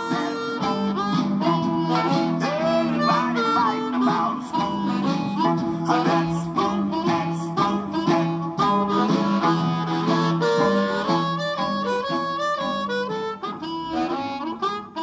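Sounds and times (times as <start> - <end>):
amplified harmonica playing blues: 0.0 - 15.0.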